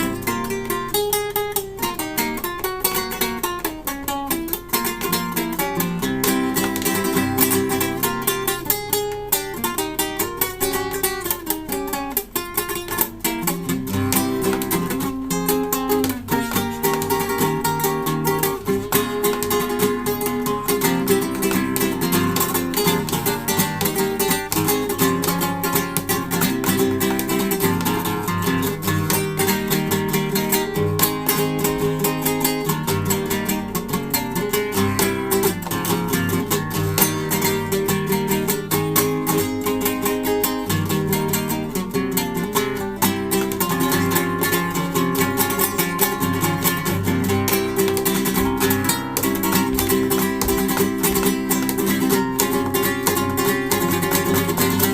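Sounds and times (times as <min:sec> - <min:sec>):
classical guitar playing: 0:00.0 - 0:54.9.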